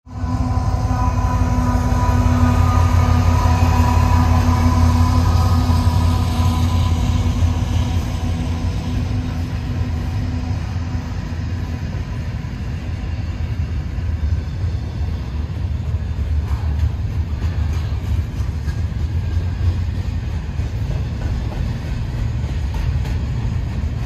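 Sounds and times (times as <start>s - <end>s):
diesel locomotive engine drone: 0.0s - 24.0s
freight cars rumbling on rails: 0.0s - 24.0s.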